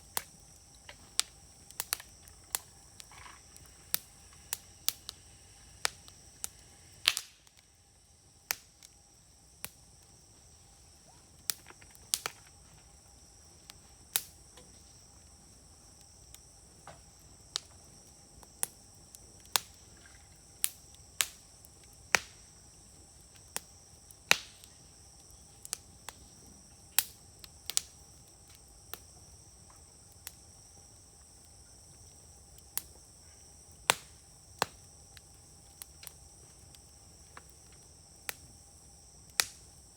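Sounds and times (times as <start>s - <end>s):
insects trilling: 0.0s - 39.9s
wood fire crackling and popping: 0.0s - 39.9s.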